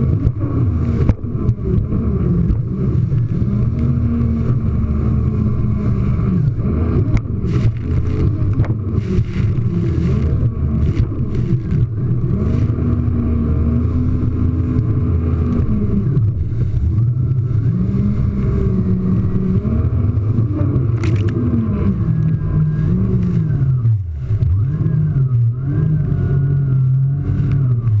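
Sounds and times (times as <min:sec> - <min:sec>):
jet ski engine revving: 0:00.0 - 0:28.0.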